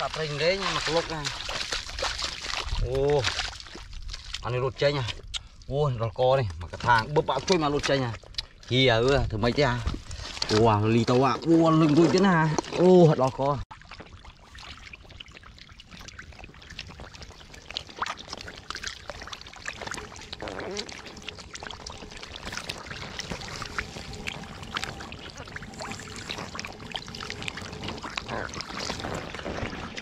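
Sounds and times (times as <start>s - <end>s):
shallow water splashing: 0.0s - 5.7s, 6.4s - 30.0s.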